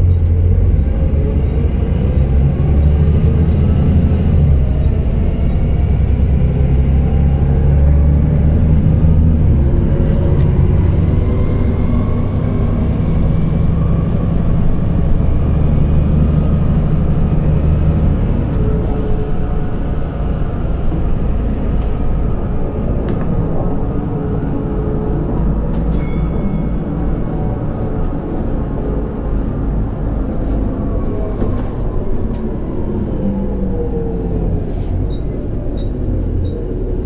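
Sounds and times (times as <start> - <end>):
bus diesel engine rumble: 0.0 - 37.0.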